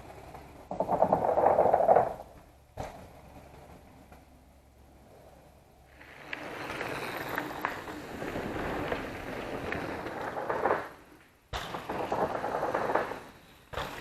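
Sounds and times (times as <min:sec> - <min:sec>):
bike tyres rolling on dirt: 0:00.0 - 0:14.0.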